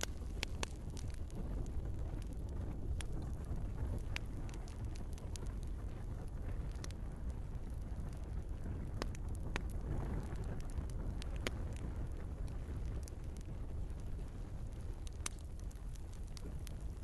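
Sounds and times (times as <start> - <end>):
log fire burning: 0.0 - 17.0.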